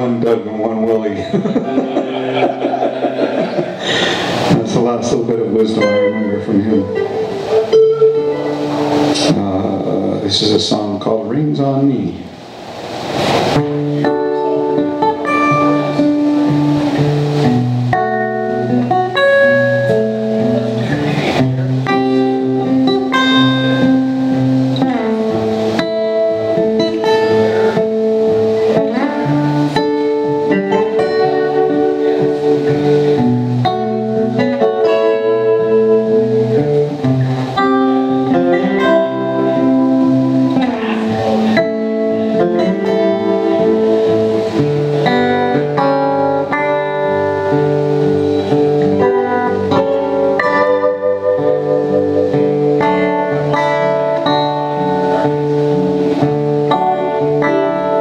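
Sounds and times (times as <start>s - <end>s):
acoustic guitar duet: 0.0s - 58.0s.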